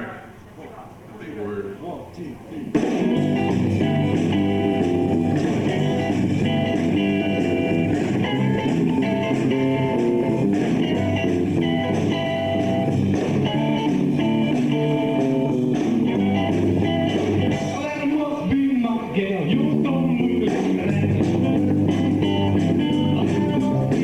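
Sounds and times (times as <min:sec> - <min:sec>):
blues-rock band playing: 0:02.7 - 0:24.0.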